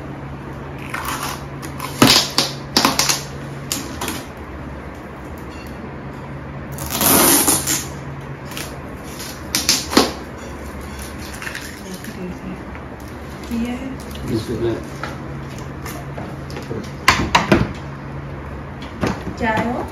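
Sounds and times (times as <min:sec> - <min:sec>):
low steady hum: 0:00.0 - 0:19.9.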